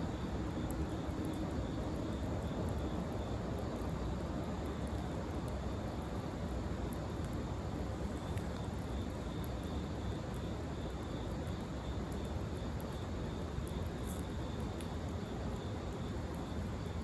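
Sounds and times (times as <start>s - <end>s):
wood fire crackling: 0.1s - 17.0s.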